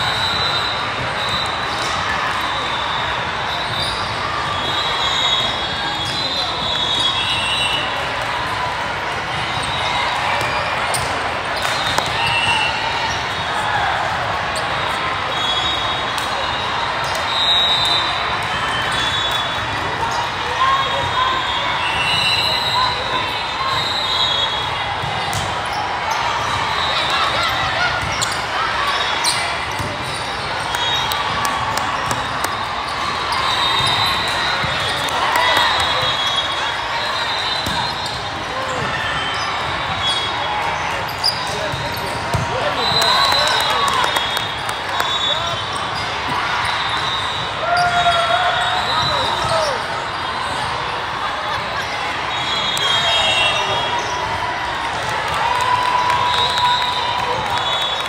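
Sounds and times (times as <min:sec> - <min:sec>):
crowd of voices: 0:00.0 - 0:58.0.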